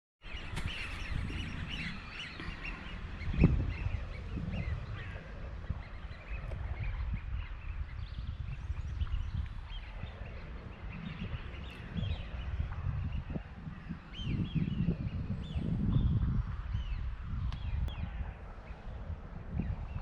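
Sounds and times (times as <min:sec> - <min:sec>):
birds calling: 0:00.2 - 0:20.0.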